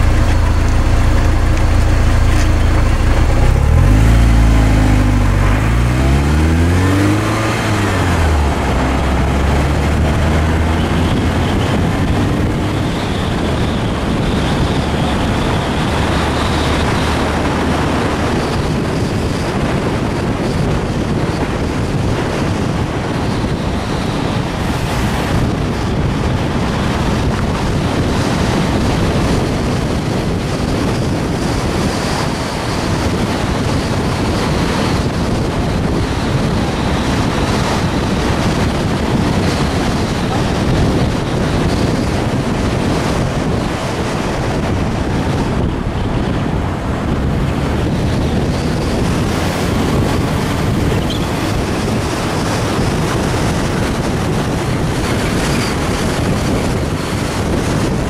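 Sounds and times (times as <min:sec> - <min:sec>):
low road rumble: 0:00.0 - 0:58.0
wind buffeting microphone: 0:00.0 - 0:58.0.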